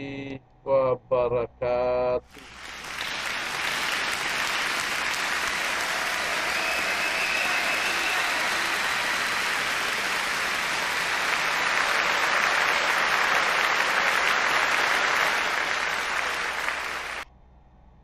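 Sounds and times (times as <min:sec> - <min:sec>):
crowd clapping: 0:02.3 - 0:17.2.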